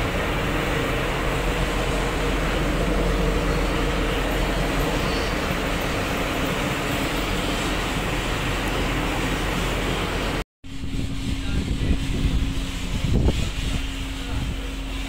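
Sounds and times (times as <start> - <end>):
ship machinery drone: 0.0 - 15.0.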